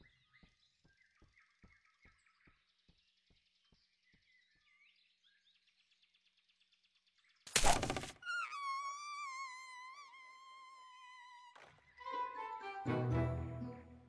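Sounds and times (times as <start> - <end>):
soft bird chirps: 0.0 - 12.0.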